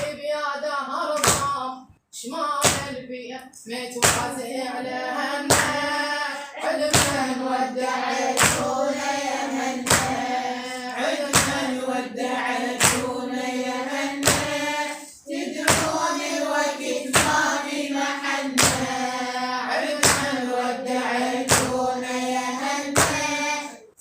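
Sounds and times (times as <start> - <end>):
women singing together: 3.8 - 23.9.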